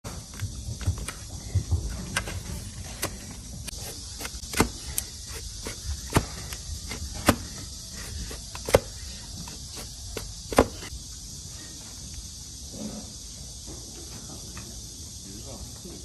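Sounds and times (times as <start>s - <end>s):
steady high hiss: 0.1s - 16.0s.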